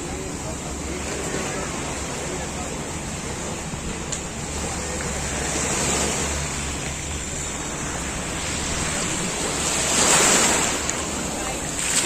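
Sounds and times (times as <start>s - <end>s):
sea waves rushing: 0.0s - 12.0s.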